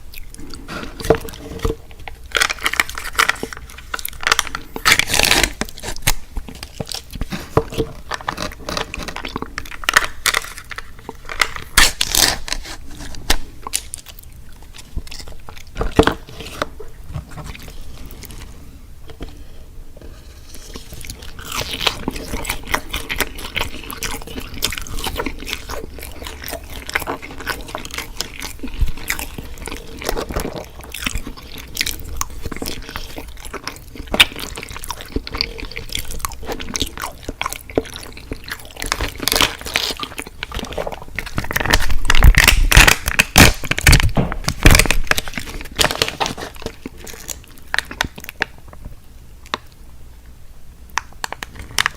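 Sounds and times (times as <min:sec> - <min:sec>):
chewing crispy fried food: 0:00.0 - 0:16.7, 0:20.4 - 0:48.9.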